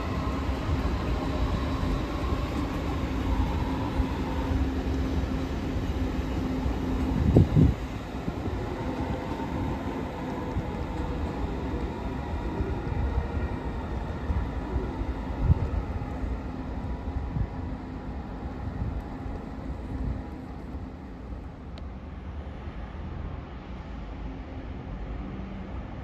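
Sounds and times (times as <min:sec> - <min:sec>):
faint steady tones: 0:00.0 - 0:26.0
train rumbling on tracks: 0:00.0 - 0:26.0.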